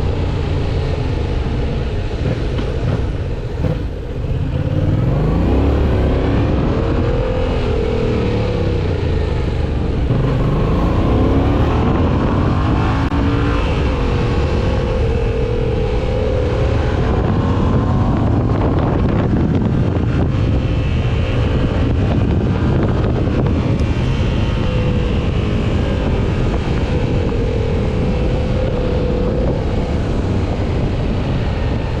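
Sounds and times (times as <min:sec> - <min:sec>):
motorcycle engine accelerating: 0:00.0 - 0:32.0
wind and road noise: 0:00.0 - 0:32.0.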